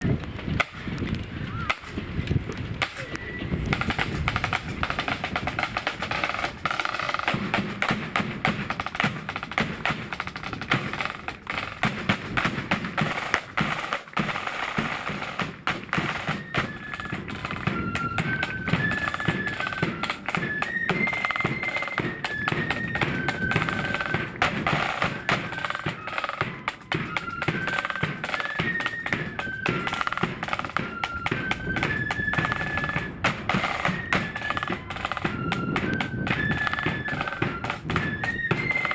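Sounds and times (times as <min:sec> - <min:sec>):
snare drum rolls: 0:00.0 - 0:38.9
flutes playing a tune: 0:02.8 - 0:38.9.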